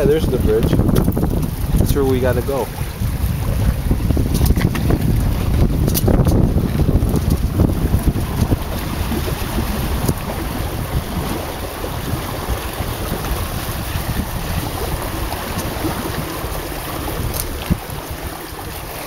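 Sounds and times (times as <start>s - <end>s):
water rushing along hulls: 0.0s - 19.0s
wind buffeting microphone: 0.0s - 19.0s.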